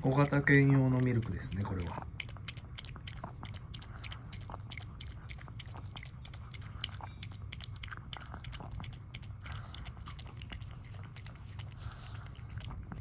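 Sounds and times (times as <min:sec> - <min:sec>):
dog lapping milk: 0:00.0 - 0:13.0.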